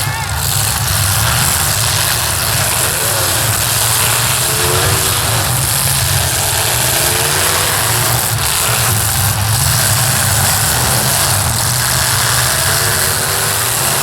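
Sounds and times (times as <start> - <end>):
many car engines revving: 0.0 - 14.0.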